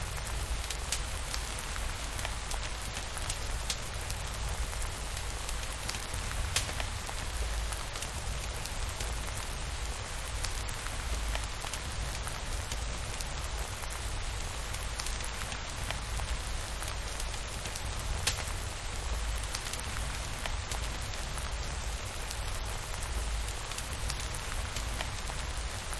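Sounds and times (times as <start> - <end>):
rain pattering: 0.0 - 25.9.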